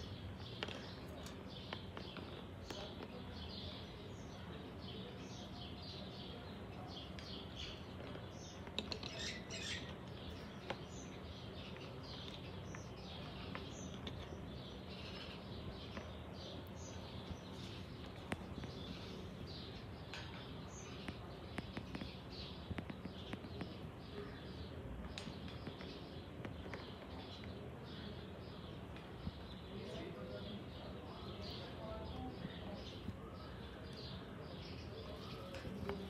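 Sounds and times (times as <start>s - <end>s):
small bird chirps: 0.0s - 36.0s.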